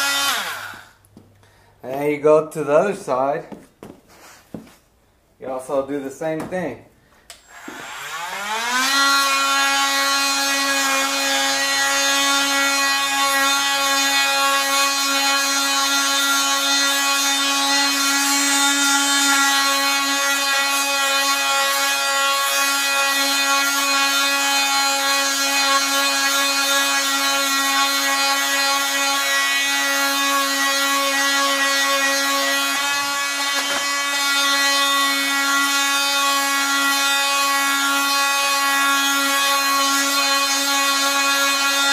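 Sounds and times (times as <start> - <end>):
sander whining at high speed: 7.5 - 18.4, 19.0 - 41.9.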